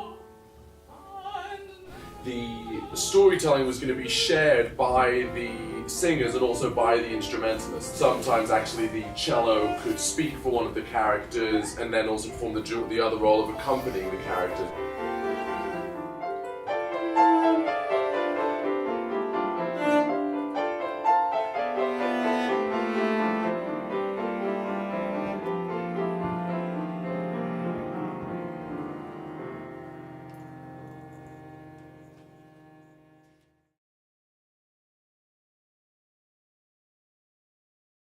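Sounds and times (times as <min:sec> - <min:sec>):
cello: 0:00.0 - 0:33.5
piano: 0:00.0 - 0:33.6.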